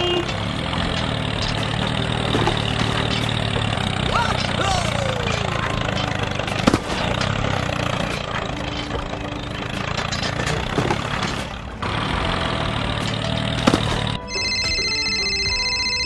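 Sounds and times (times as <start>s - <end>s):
sharp knocks: 0.0s - 14.8s
tractor engine idling: 0.0s - 16.0s.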